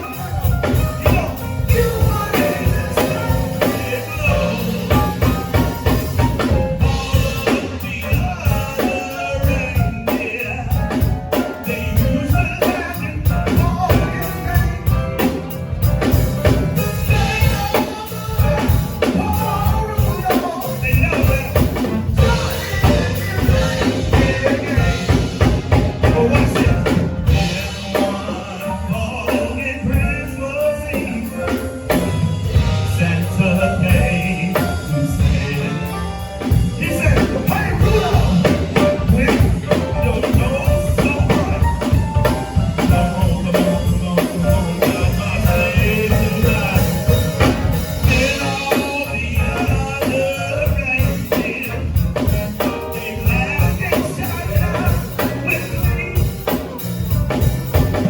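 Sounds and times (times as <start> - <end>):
bass: 0.0 - 58.0
drum kit beat: 0.0 - 58.0
keyboard: 0.0 - 58.0.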